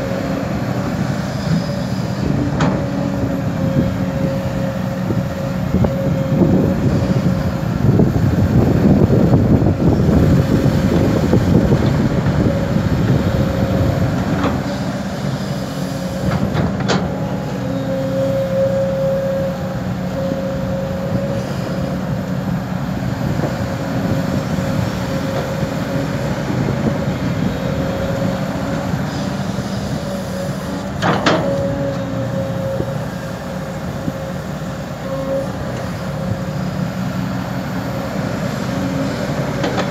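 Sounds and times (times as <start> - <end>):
excavator engine and hydraulics whining: 0.0 - 39.9.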